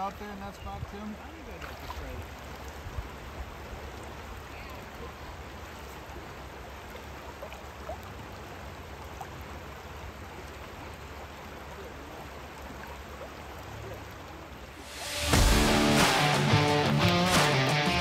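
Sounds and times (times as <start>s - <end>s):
river current rushing: 0.0s - 18.0s.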